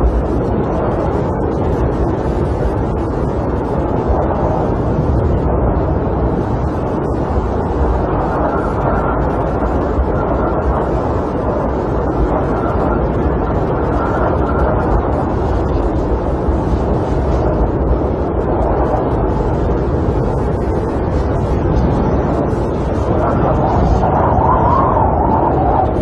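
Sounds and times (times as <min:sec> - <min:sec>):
wind buffeting a camper: 0:00.0 - 0:26.0.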